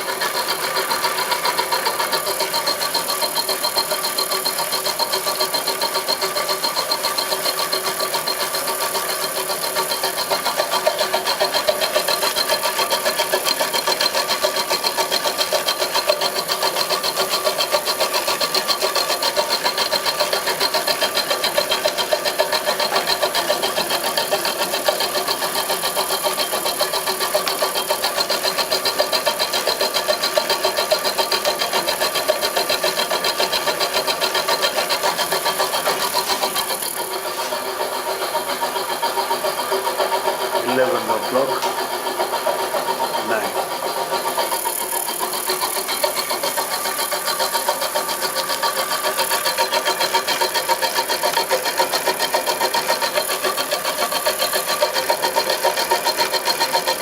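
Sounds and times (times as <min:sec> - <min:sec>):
milling machine running: 0:00.0 - 0:57.0.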